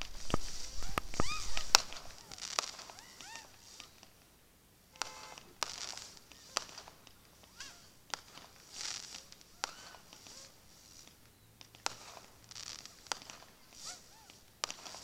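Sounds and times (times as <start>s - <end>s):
distant fireworks bangs: 0.0s - 4.3s, 4.9s - 15.0s.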